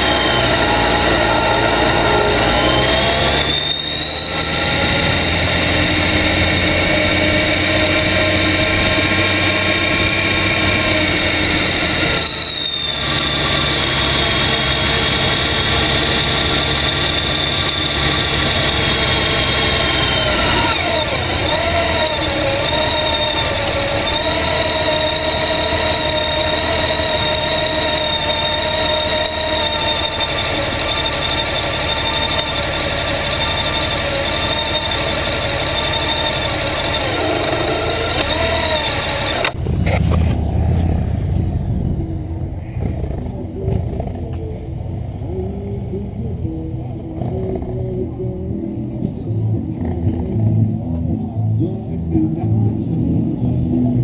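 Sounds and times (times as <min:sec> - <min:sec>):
motorcycle engine whine: 0:00.0 - 0:54.0.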